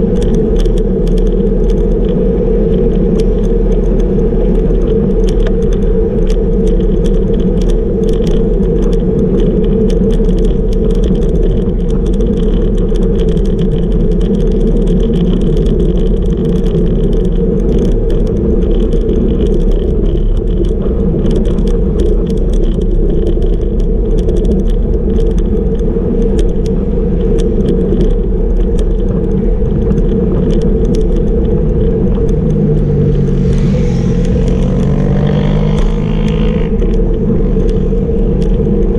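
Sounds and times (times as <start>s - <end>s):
engine hum: 0.0s - 38.9s
rattling clicks from road vibration: 0.0s - 38.9s
road rumble: 0.0s - 38.9s
steady wind: 0.0s - 38.9s.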